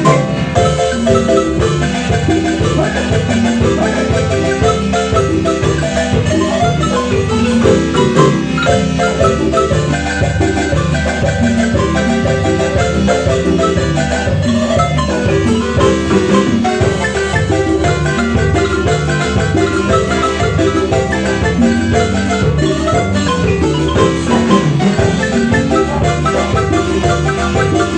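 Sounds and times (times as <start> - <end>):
marimba music: 0.0 - 27.9.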